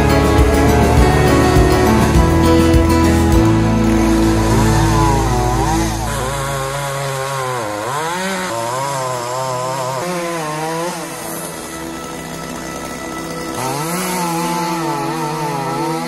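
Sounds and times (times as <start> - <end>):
chainsaw cutting brush: 0.0 - 16.0.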